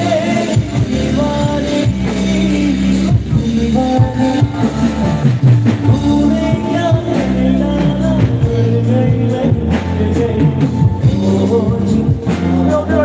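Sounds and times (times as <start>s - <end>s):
live pop music over loudspeakers: 0.0s - 13.0s
man singing: 0.0s - 13.0s
steady drumbeat: 0.0s - 13.0s.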